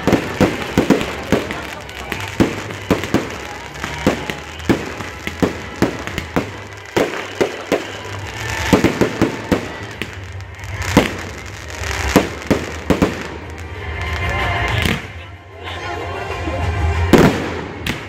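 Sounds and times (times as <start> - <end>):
fireworks bangs: 0.0 - 15.2, 16.9 - 18.0
fireworks crackling: 0.0 - 15.4, 16.0 - 18.0.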